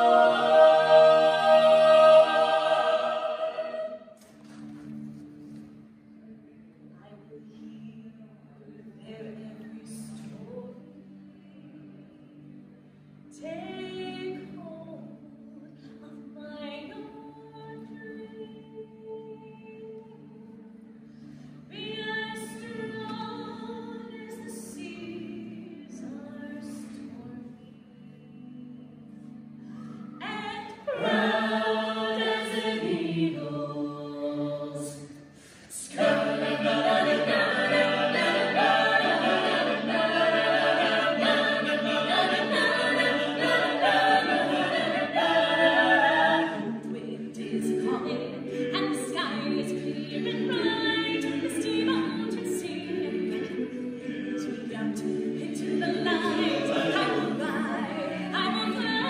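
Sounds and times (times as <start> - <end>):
a cappella ensemble singing: 0.0 - 5.8, 9.0 - 59.0.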